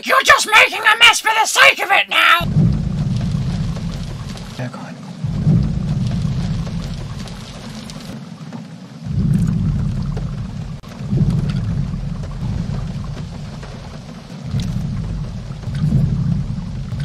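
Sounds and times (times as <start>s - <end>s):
deep booming footstep thuds: 2.4s - 4.6s, 5.2s - 17.0s.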